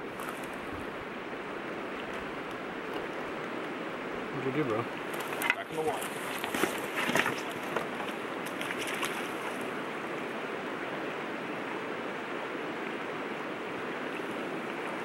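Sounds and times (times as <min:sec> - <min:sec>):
river water rushing over stones: 0:00.0 - 0:15.0.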